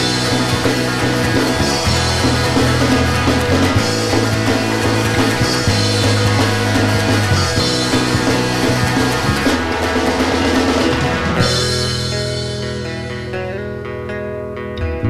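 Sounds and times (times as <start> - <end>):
drum kit and cymbals: 0.0 - 13.5
electric guitars and bass: 0.0 - 15.0.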